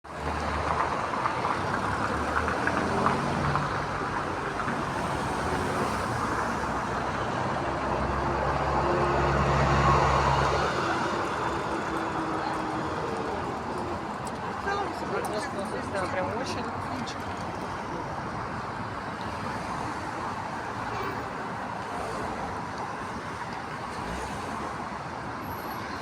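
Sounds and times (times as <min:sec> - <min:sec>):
traffic-like outdoor noise: 0:00.0 - 0:26.0.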